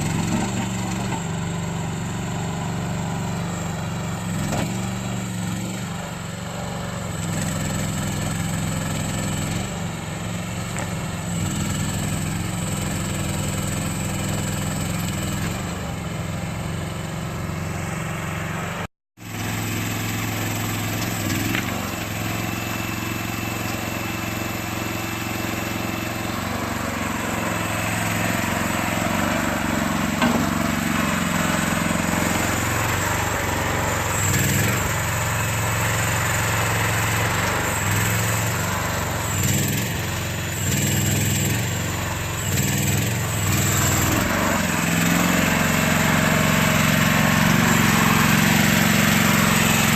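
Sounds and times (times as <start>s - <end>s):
small engine running: 0.0s - 49.9s.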